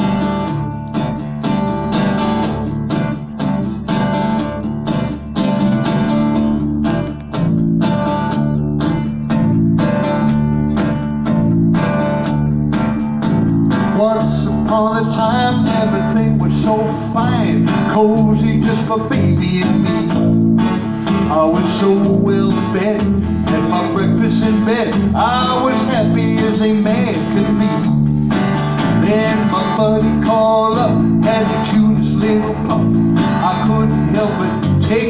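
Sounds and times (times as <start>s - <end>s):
acoustic guitar strumming: 0.0s - 35.0s
fretless electric bass: 0.0s - 35.0s.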